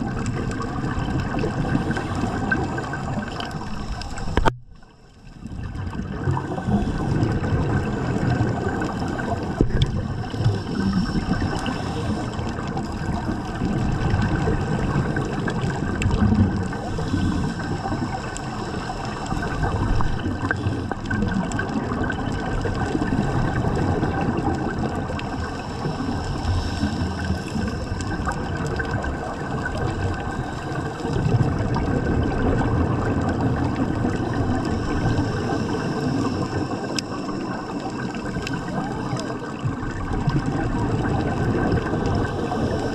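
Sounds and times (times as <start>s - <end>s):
bubbling of exhaled breath: 0.0s - 42.9s
underwater water rush: 0.0s - 42.9s.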